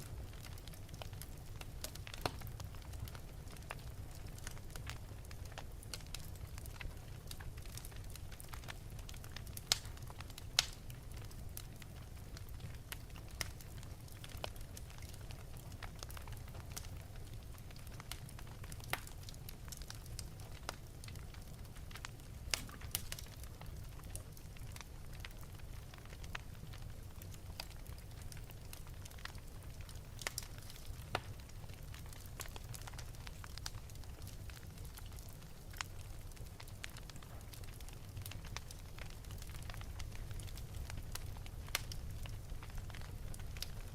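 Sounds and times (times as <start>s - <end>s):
fireplace fire crackling: 0.0s - 43.9s
flames rumbling: 0.0s - 43.9s.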